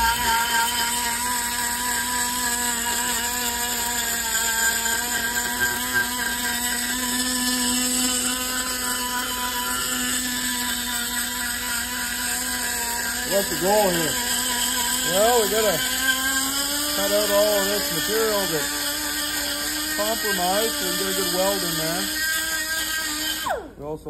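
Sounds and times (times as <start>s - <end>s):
motor droning steadily: 0.0s - 24.0s.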